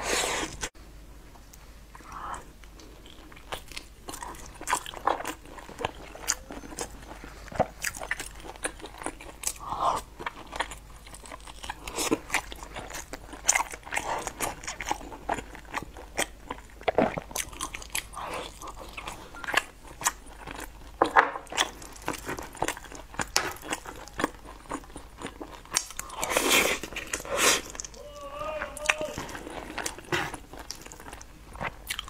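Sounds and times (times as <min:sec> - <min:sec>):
wet chewing: 0:02.0 - 0:32.0.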